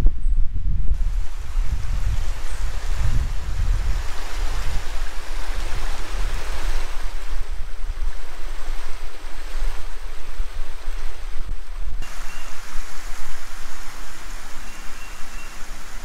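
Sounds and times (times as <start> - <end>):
wind buffeting microphone: 0.0 - 16.0
creek rushing: 1.0 - 7.6, 8.2 - 16.0.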